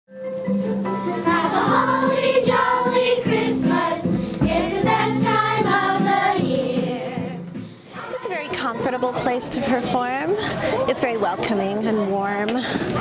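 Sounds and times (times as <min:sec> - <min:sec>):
children's choir singing: 0:01.0 - 0:12.1.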